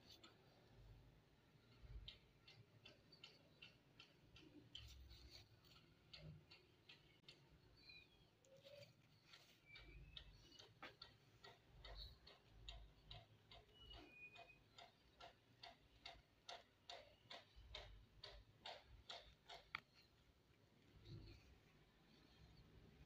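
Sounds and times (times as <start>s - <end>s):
faint even ticking: 0.0s - 23.0s.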